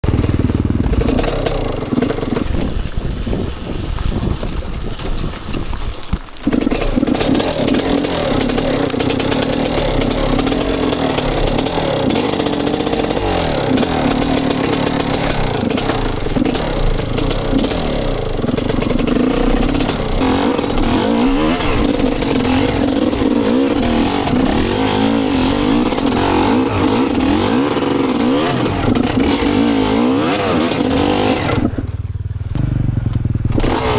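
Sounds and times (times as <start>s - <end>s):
motorcycle engine under load: 0.0s - 33.9s.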